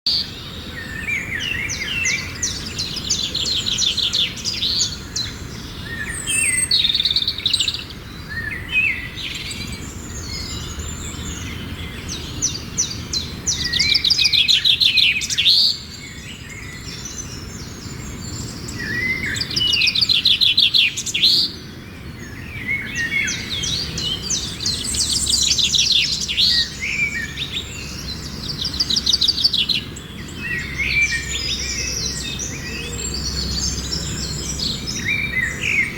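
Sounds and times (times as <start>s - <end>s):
songbird chirping and trilling: 0.1s - 35.9s.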